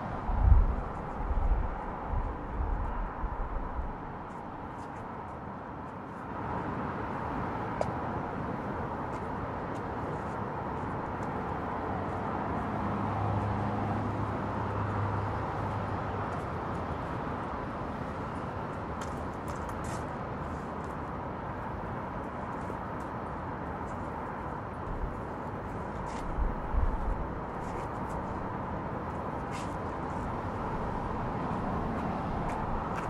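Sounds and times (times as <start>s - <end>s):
distant traffic rumble: 0.0s - 33.0s
passing vehicle engine hum: 0.0s - 33.0s.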